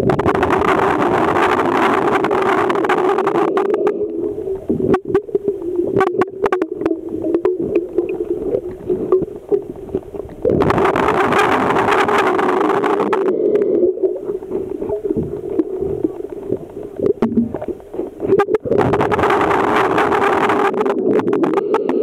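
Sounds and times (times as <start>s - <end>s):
rushing water noise: 0.0s - 22.0s
underwater low hum: 0.0s - 22.0s.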